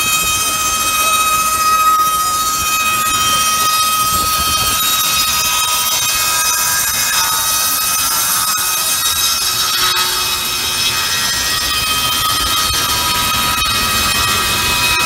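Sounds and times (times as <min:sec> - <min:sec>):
high-pitched saw whine: 0:00.0 - 0:15.0.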